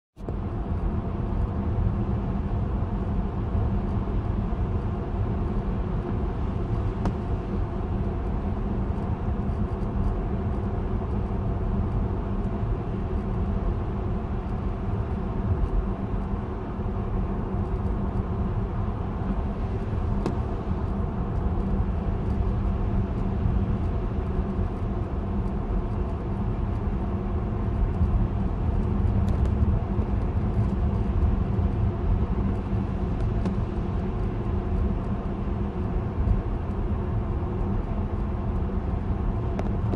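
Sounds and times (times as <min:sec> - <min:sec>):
car interior road and engine noise: 0:00.2 - 0:39.9.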